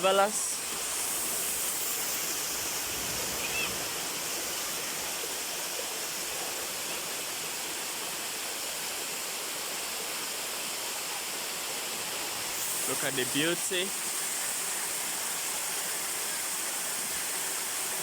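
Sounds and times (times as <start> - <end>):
spring water rushing: 0.0 - 18.0.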